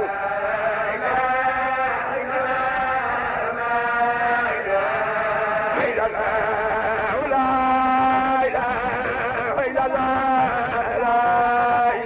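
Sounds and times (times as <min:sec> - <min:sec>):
melodic religious chanting: 0:00.0 - 0:12.0.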